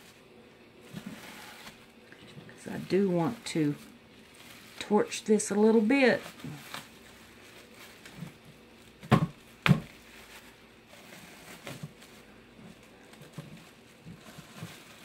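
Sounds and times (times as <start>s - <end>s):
bubble wrap rustling: 0.0s - 15.0s
bubble wrap snapping: 0.0s - 15.0s.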